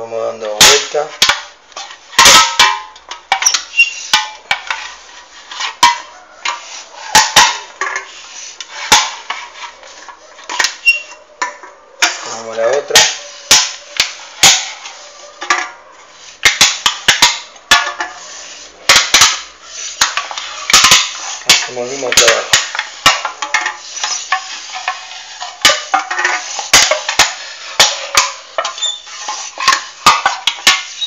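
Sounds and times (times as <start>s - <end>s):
blade scraping aluminium can: 3.3s - 15.7s, 16.4s - 31.0s.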